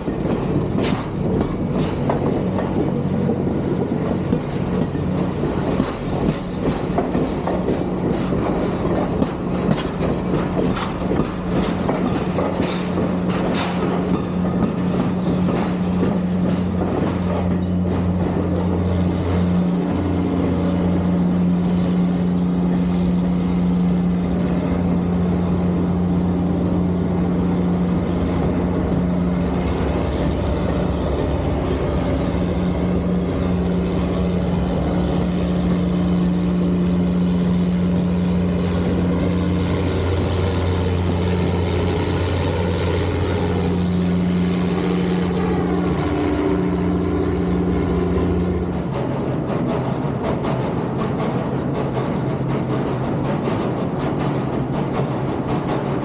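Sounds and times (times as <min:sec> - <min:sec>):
engine droning: 0:00.0 - 0:50.5.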